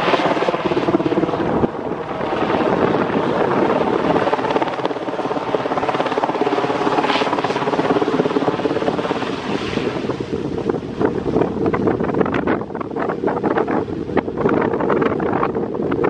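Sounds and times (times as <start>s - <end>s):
helicopter engines running: 0.0s - 13.6s
helicopter rotor beating: 0.0s - 13.7s.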